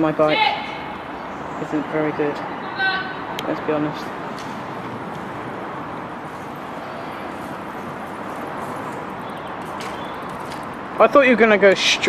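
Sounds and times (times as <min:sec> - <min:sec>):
motorway traffic hiss and rumble: 0:00.0 - 0:12.0.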